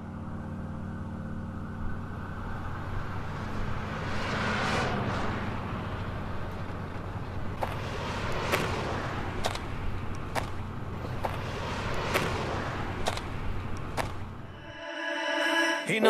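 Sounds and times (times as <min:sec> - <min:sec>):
low traffic engine hum: 0:00.0 - 0:14.8
vehicle passing: 0:00.0 - 0:15.9.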